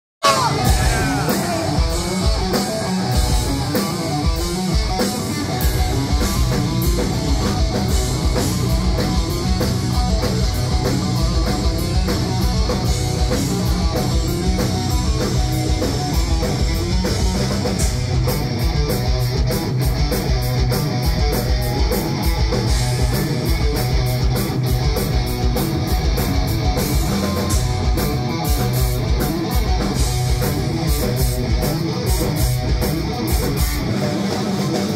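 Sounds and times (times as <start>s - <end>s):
electric guitar solo: 0.2s - 34.9s
live heavy metal band: 0.2s - 34.9s.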